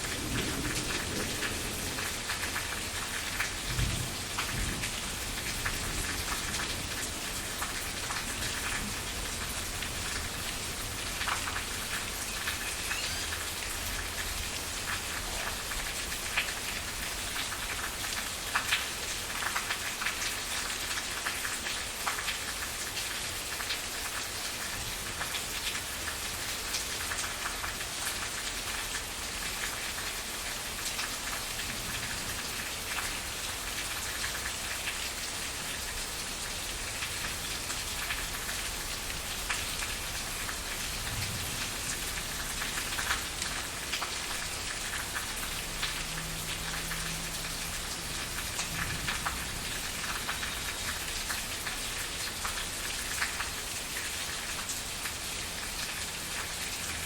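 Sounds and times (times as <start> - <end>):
raindrops pattering: 0.0 - 57.0
steady rain: 0.0 - 57.0.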